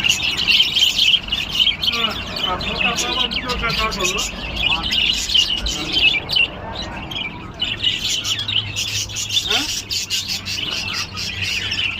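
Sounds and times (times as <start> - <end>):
small birds chirping and twittering: 0.0 - 11.9.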